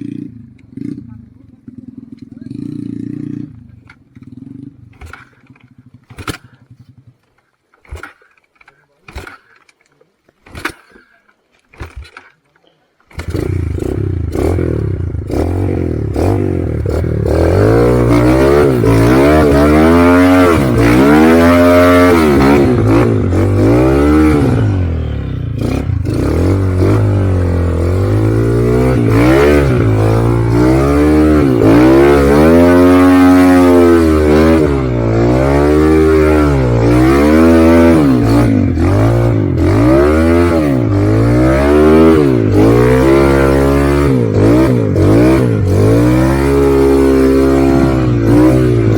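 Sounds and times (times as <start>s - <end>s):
motorcycle engine revving: 0.0s - 9.6s, 13.0s - 48.9s.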